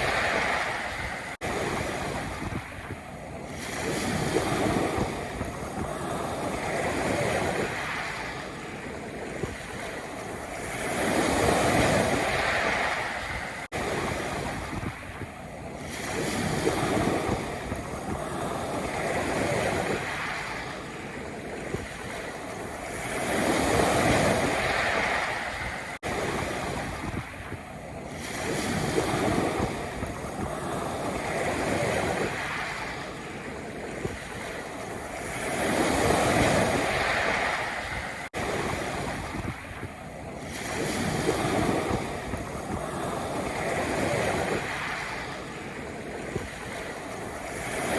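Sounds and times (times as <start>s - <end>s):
waves on a pebble beach: 0.0s - 47.9s.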